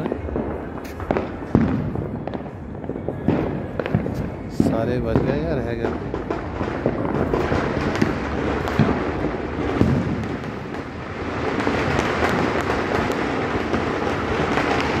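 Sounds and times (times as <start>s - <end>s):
small firework pops: 0.0s - 10.9s, 11.5s - 15.0s.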